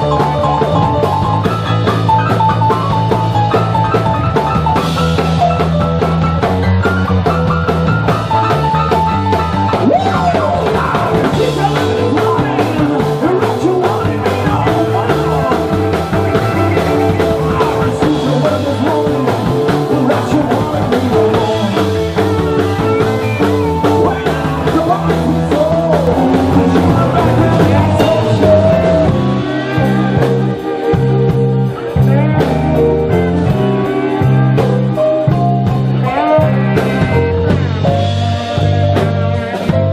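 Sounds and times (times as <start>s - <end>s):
bent electric guitar notes: 0.0s - 39.9s
blues-rock band playing: 0.0s - 39.9s.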